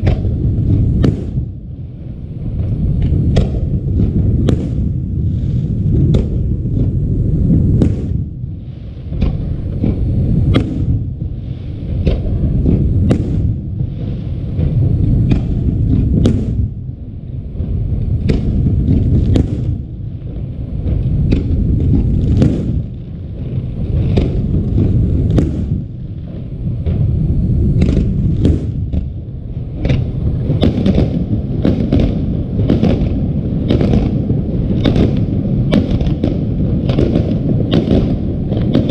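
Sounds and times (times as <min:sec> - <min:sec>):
fireworks booming rumble: 0:00.0 - 0:38.9
fireworks cracks and pops: 0:00.0 - 0:38.9.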